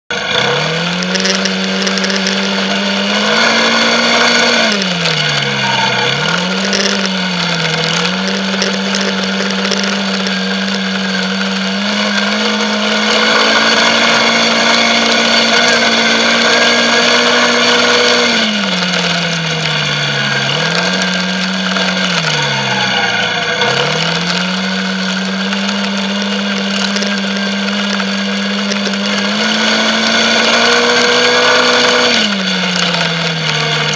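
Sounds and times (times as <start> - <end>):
quad bike engine revving: 0.1 - 33.9.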